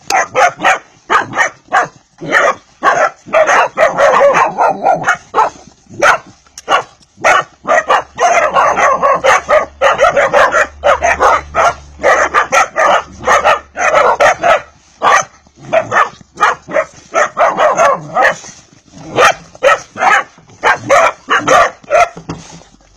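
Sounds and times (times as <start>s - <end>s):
puppies barking and yipping: 0.0s - 22.9s.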